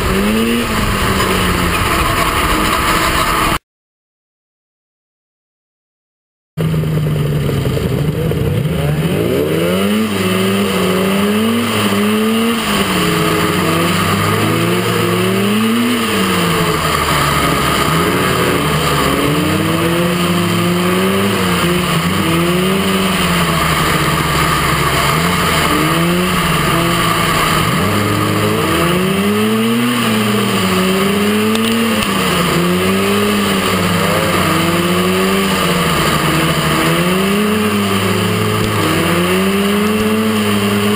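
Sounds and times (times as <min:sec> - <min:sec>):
buggy engine revving: 0:00.0 - 0:03.6, 0:06.6 - 0:40.9
rush of other engines: 0:00.0 - 0:03.6, 0:06.6 - 0:40.9.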